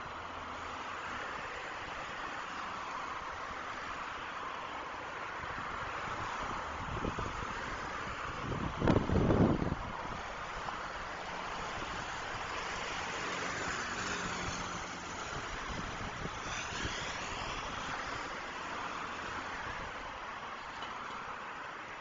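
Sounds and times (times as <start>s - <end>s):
highway traffic hiss: 0.0s - 22.0s
passing vehicle high whine: 0.0s - 22.0s.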